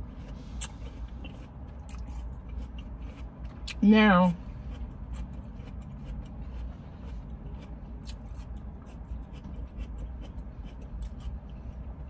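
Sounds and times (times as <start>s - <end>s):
chewing watermelon: 0.0s - 12.0s
low steady hum: 0.0s - 12.0s.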